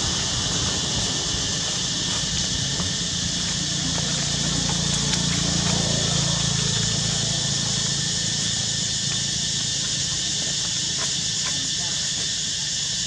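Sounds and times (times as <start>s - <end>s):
low droning hum: 0.0s - 10.8s.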